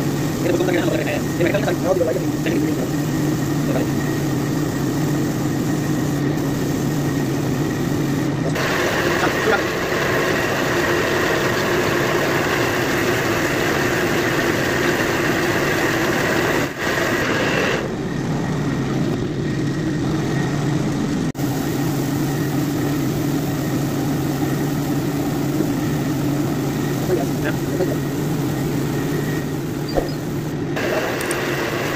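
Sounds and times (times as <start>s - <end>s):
paint spray gun hissing: 0.0s - 17.9s, 21.4s - 31.9s
air compressor humming: 0.0s - 31.9s.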